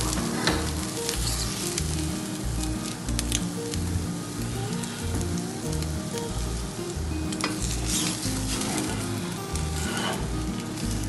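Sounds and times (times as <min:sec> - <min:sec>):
background music with bass: 0:00.0 - 0:11.0
omelette sizzling in oil: 0:00.0 - 0:11.0.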